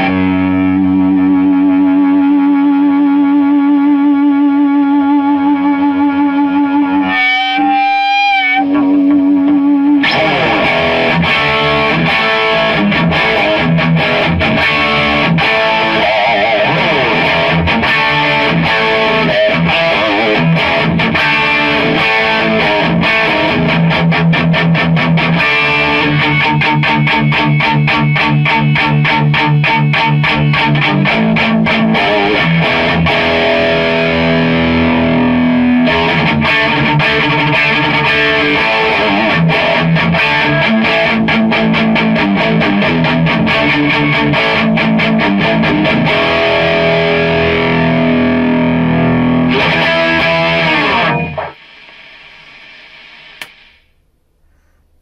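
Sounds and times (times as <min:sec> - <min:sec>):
electric guitar riffs and chords: 0:00.0 - 0:53.8.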